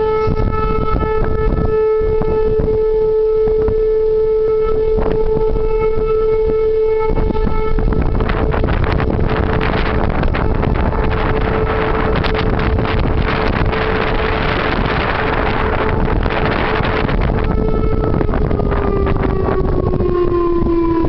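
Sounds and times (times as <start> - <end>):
warning siren steady tone: 0.0 - 21.0
wind rumble on microphone: 0.0 - 21.0.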